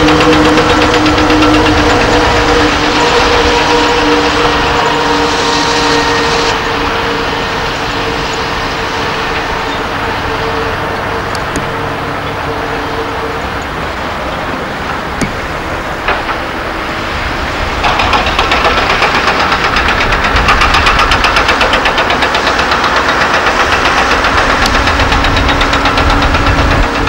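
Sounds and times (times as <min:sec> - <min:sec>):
dump truck diesel engines: 0:00.0 - 0:27.0
road and tyre noise: 0:00.0 - 0:27.0.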